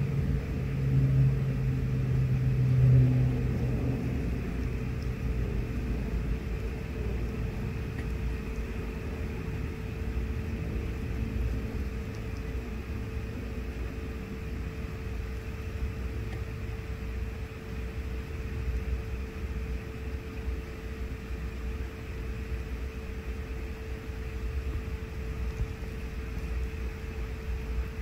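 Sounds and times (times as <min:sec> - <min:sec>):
mid-pitched hum: 0:00.0 - 0:28.0.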